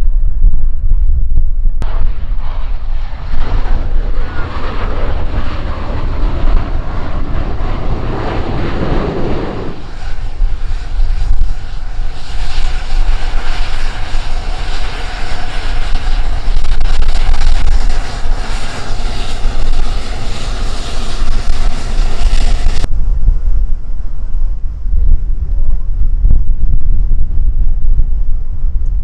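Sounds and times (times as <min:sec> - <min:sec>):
airplane engine noise: 0:00.0 - 0:29.0.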